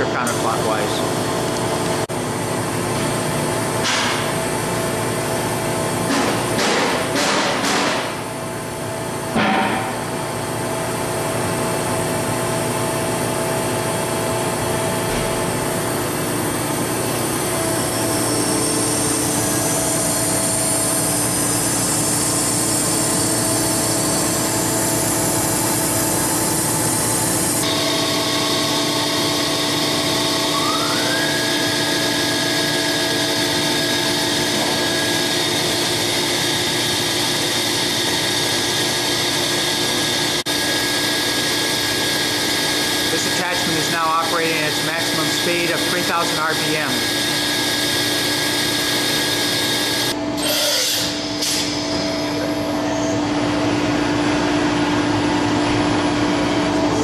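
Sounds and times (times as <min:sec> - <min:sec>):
machining center whine and hum: 0:00.0 - 0:57.0.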